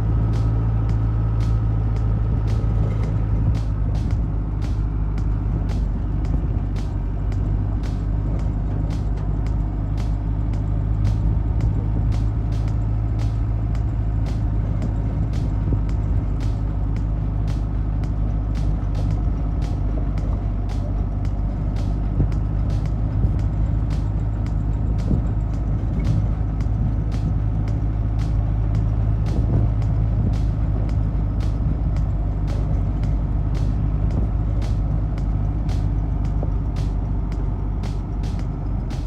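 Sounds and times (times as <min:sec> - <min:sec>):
vehicle engine droning: 0:00.0 - 0:39.0.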